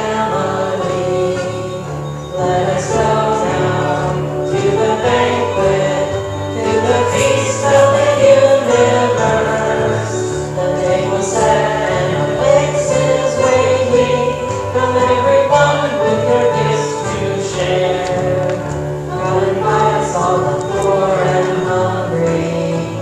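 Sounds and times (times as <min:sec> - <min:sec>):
several voices singing a hymn: 0:00.0 - 0:23.0.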